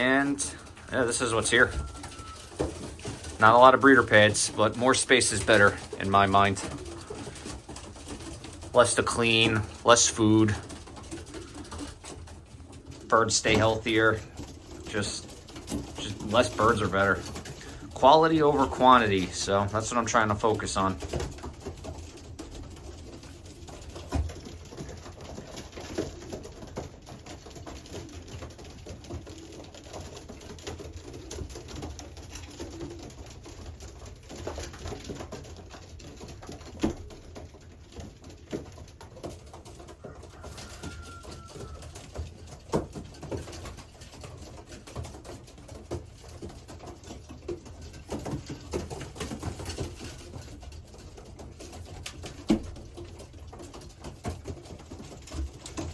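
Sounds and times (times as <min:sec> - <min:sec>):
pigeons cooing: 0:00.0 - 0:55.9.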